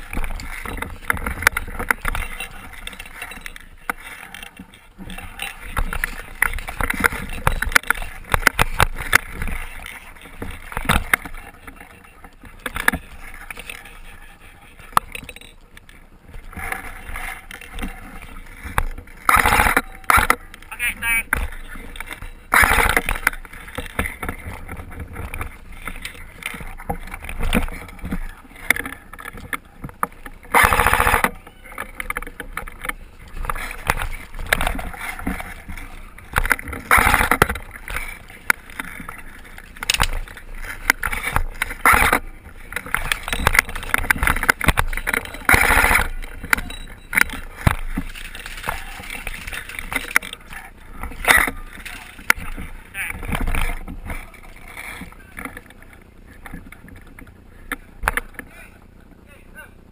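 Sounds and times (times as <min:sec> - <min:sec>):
voices: 0:00.0 - 0:59.9.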